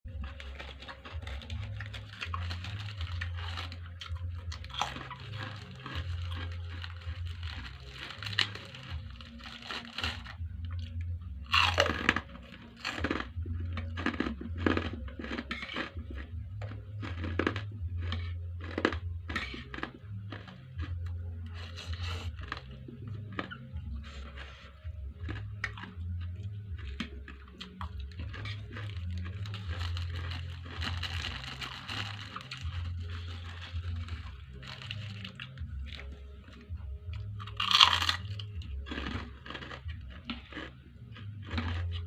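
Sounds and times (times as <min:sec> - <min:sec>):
crunchy bites and chewing: 0:00.1 - 0:42.0.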